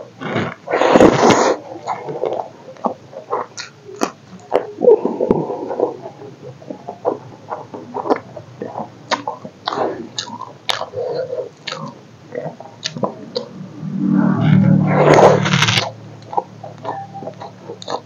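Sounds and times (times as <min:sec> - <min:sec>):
person chewing food: 0:00.2 - 0:13.6, 0:15.0 - 0:18.0.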